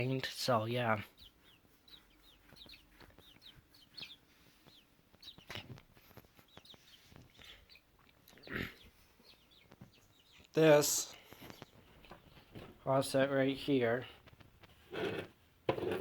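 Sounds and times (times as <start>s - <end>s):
baby birds chirping: 0.0s - 14.0s.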